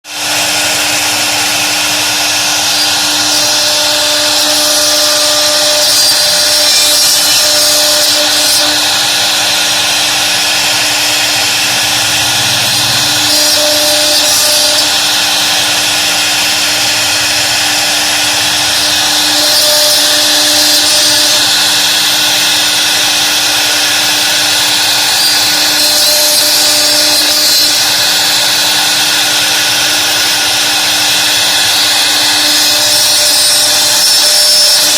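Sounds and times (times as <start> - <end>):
router spindle whine: 0.0 - 34.9
bit cutting wood hissing: 0.1 - 34.9.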